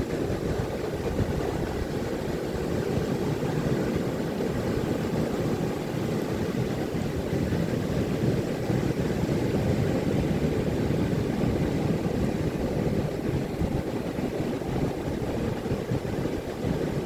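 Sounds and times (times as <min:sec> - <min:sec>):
ocean surf rumbling: 0:00.0 - 0:17.0.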